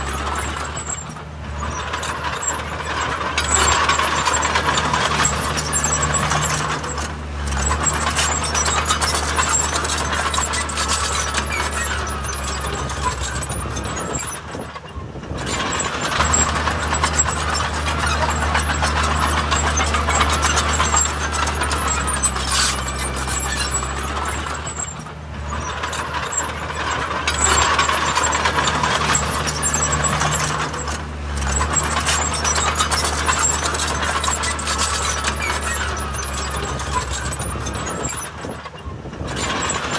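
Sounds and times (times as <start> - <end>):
diesel engine under load: 0.0 - 39.9
metallic clanking and rattling: 0.0 - 39.9.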